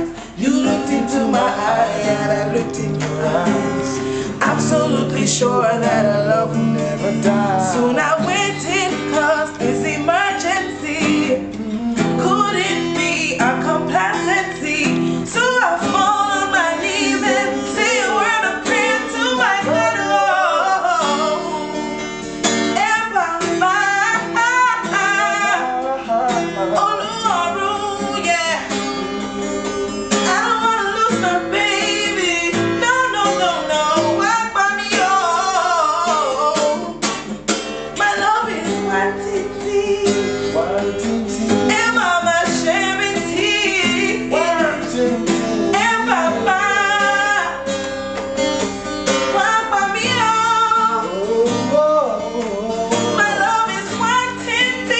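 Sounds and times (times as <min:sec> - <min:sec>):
person singing: 0:00.0 - 0:21.8, 0:22.8 - 0:28.8, 0:30.2 - 0:37.1, 0:38.0 - 0:47.7, 0:49.2 - 0:54.9
acoustic guitar playing: 0:00.0 - 0:54.9.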